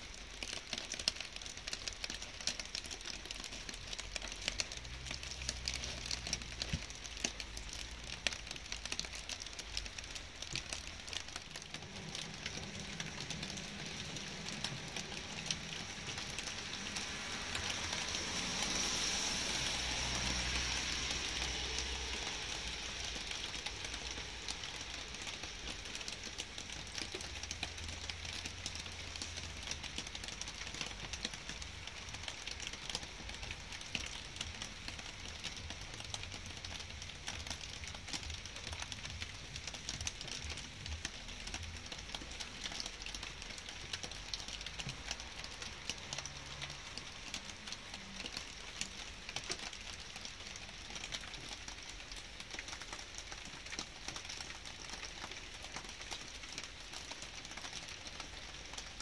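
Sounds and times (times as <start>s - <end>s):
light rain falling: 0.0s - 59.0s
raindrops ticking: 0.0s - 59.0s.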